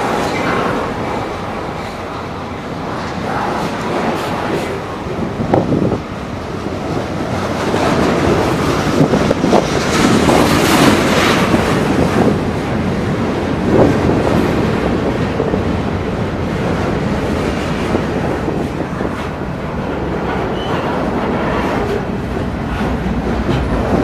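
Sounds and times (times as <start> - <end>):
freight train wheels rumbling: 0.0 - 24.0
wind buffeting microphone: 0.0 - 24.0.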